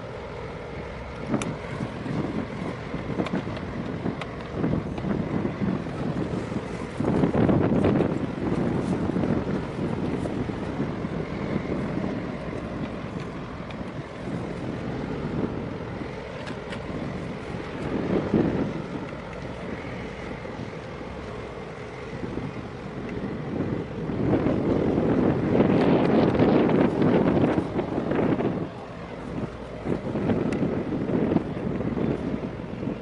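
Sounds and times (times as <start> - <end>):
boat engines rumbling: 0.0 - 33.0
wind buffeting microphone: 0.0 - 33.0.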